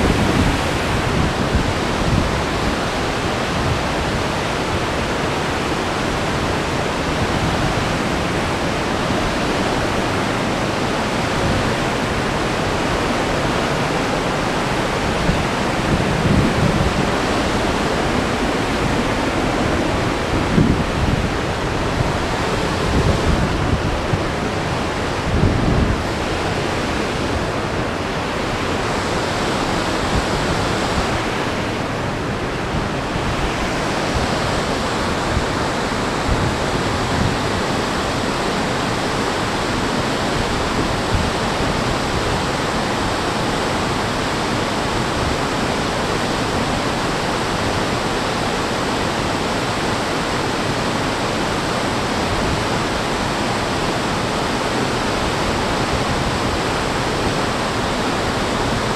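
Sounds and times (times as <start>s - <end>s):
stream rushing over rock: 0.0s - 58.9s.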